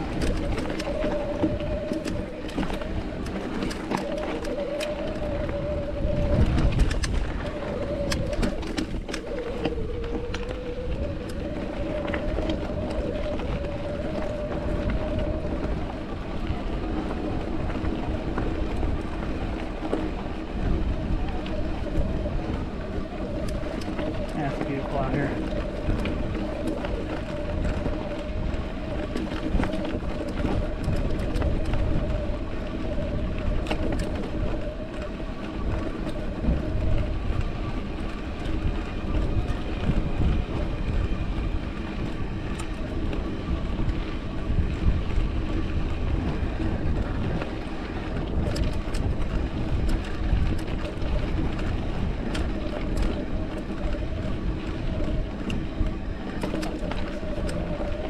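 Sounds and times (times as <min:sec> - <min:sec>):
bike knocking and rattling: 0:00.0 - 0:58.0
bike tyre rolling on rocks: 0:00.0 - 0:58.0
wind noise: 0:00.0 - 0:58.0.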